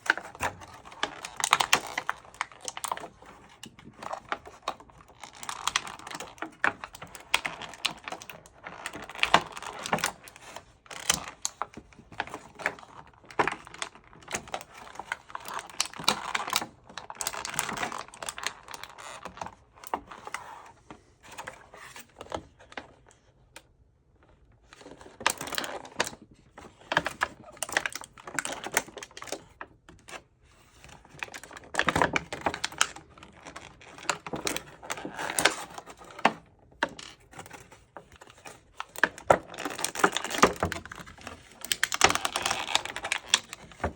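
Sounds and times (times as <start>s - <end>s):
plastic packaging crinkling and clicking: 0.0s - 43.9s.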